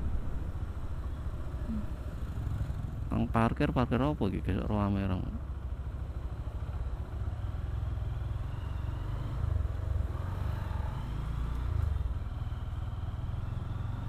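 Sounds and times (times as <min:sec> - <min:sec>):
motorcycle engine low rumble: 0:00.0 - 0:14.0.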